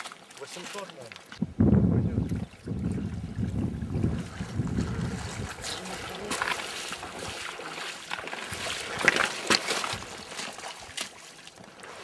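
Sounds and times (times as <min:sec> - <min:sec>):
water splashing from wading: 0:02.2 - 0:12.0.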